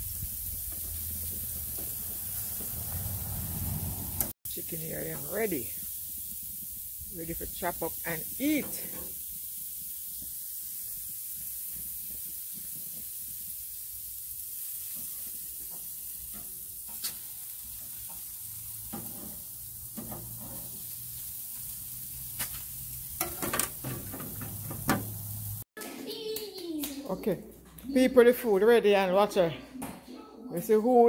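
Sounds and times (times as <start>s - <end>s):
meat sizzling on a grill: 0.0s - 25.7s.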